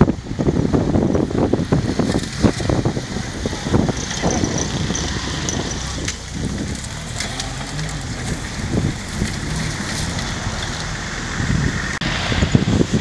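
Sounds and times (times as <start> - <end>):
jeep engine rumble: 0.0 - 13.0
wind noise on microphone: 0.0 - 13.0.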